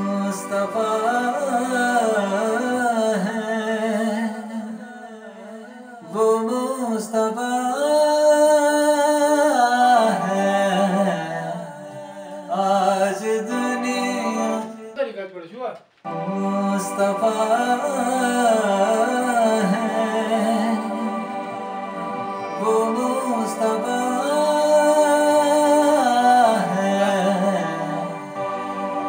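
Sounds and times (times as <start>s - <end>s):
man singing devotional song: 0.0s - 15.3s, 16.0s - 29.0s.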